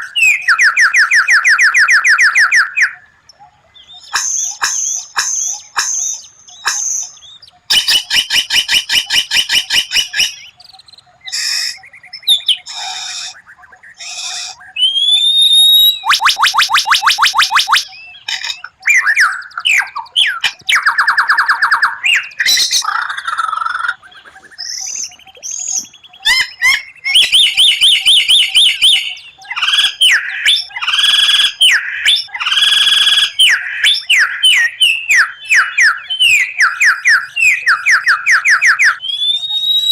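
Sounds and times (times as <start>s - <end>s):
songbird trills and whistles: 0.0s - 39.9s.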